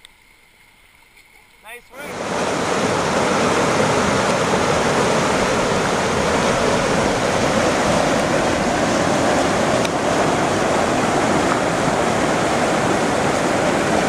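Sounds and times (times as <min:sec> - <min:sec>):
river rapids rushing: 0:01.9 - 0:14.0.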